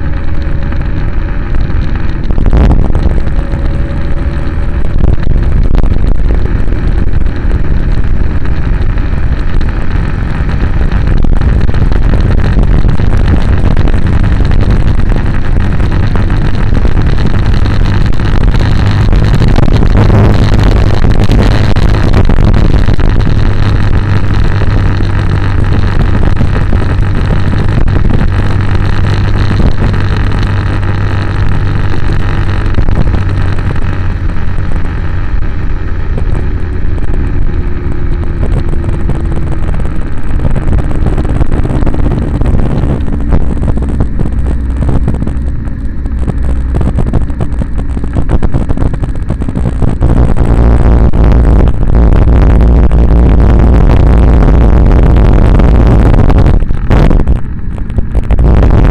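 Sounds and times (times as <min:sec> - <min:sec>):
vehicle engine running: 0:00.0 - 0:58.9
wind rumble on microphone: 0:00.0 - 0:58.9.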